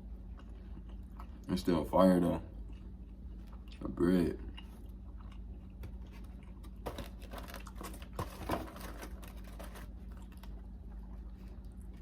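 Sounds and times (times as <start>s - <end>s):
crackly chewing sounds: 0.0s - 12.0s
low electrical hum: 0.0s - 12.0s.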